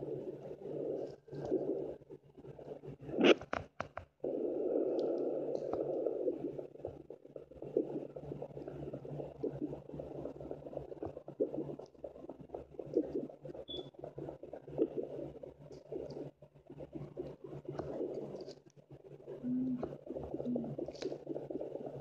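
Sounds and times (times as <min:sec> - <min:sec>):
steady low hum: 0:04.1 - 0:22.0
doppler speaker hissing and crackling: 0:04.2 - 0:22.0.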